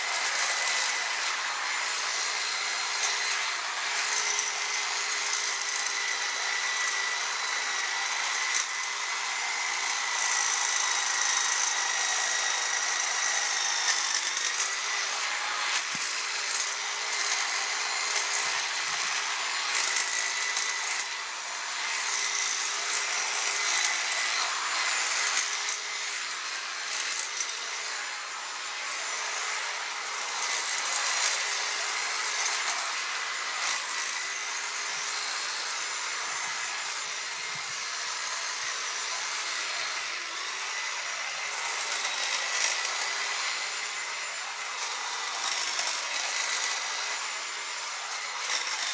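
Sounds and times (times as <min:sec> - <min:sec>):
electric hedge clippers trimming: 0:00.0 - 0:48.9.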